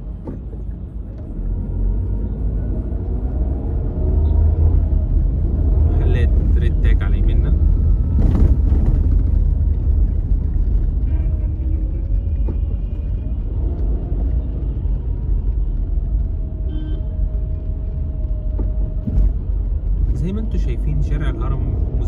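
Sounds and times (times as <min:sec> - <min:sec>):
car interior rumble: 0:00.0 - 0:22.0.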